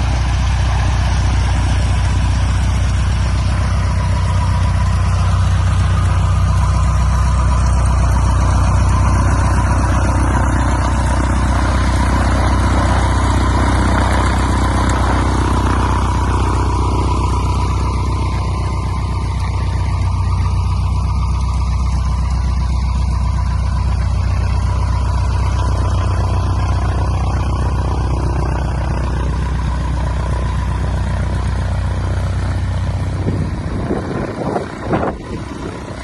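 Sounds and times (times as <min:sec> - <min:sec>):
light aircraft engine droning: 0:00.0 - 0:36.0.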